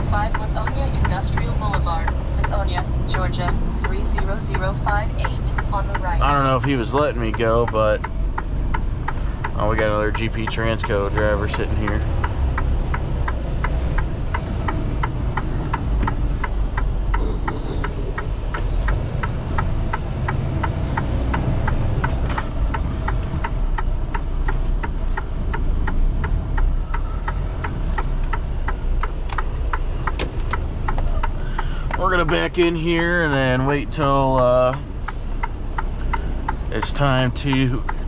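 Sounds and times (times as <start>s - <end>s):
diesel truck engine rumbling: 0.0s - 38.0s
regular ticking: 0.0s - 38.0s.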